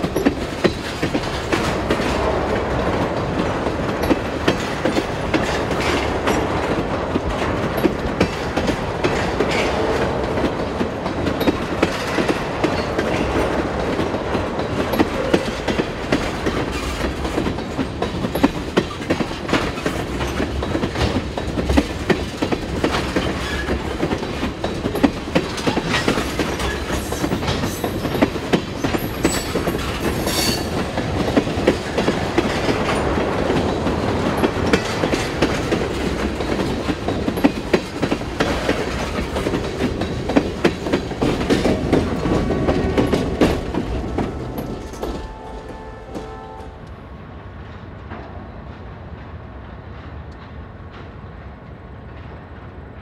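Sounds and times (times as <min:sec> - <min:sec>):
wheels clicking over rail joints: 0:00.0 - 0:47.0
train wheels rumbling on rail: 0:00.0 - 0:53.0.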